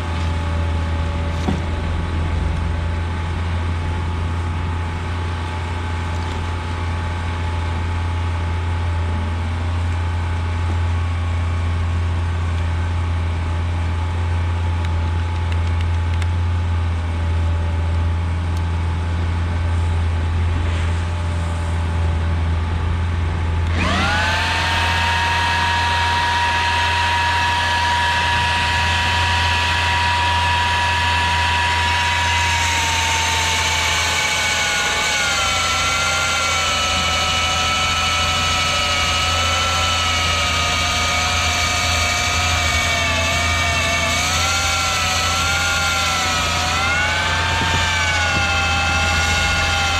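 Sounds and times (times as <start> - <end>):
electric core drill whine: 0.0 - 16.3, 20.7 - 49.9
low steady hum: 0.0 - 49.9.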